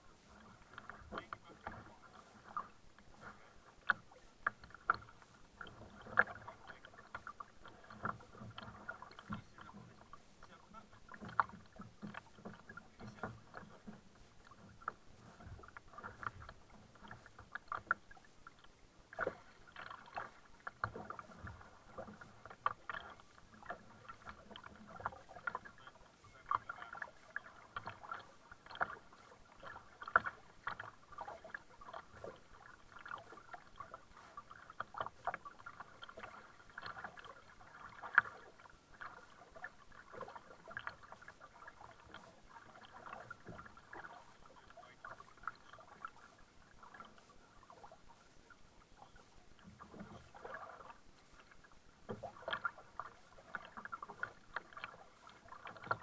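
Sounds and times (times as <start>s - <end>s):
kayak paddle pulling through water: 0.0s - 56.0s
water splashes and drips: 0.1s - 56.0s.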